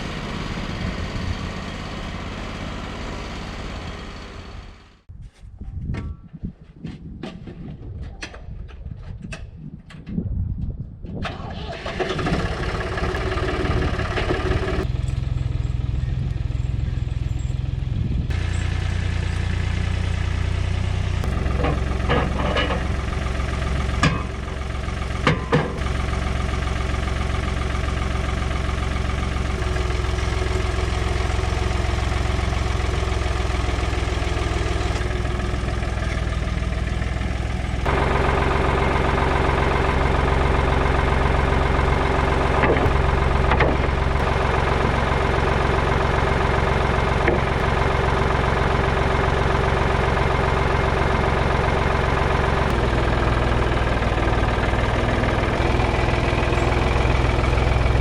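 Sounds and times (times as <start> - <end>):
sawmill engine running: 0.0 - 5.1, 11.2 - 17.4, 18.0 - 58.0.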